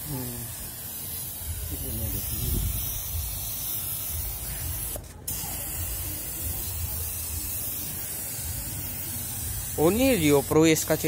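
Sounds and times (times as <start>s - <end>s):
spray gun hissing: 0.0s - 11.0s.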